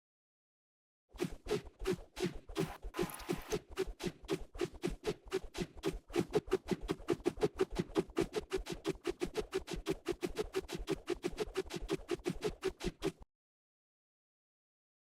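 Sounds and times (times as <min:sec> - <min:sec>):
rapid scratching strokes: 0:01.2 - 0:13.2.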